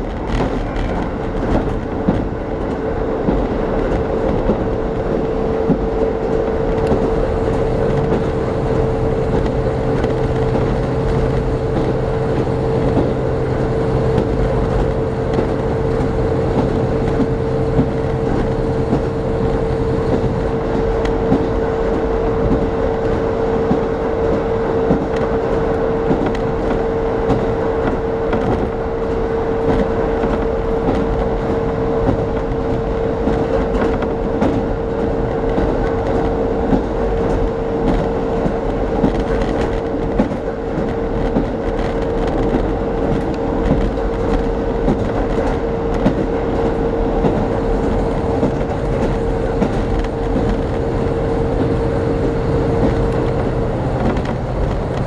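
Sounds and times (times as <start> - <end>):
constant train whine: 0.0 - 55.0
train wheels rumbling on rails: 0.0 - 55.0.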